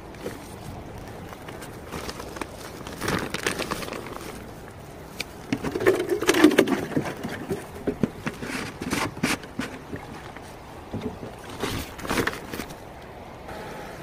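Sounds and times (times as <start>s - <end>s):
plastic bags rustling: 0.0s - 12.9s.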